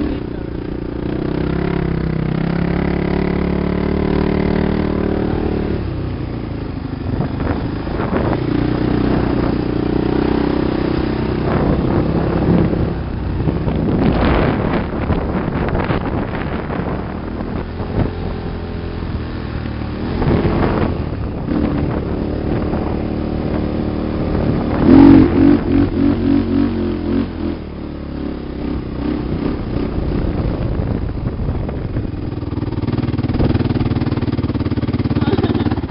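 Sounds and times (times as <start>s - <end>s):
wind buffeting microphone: 0.0s - 27.6s, 28.4s - 35.9s
off-road vehicle engine running: 0.0s - 35.9s.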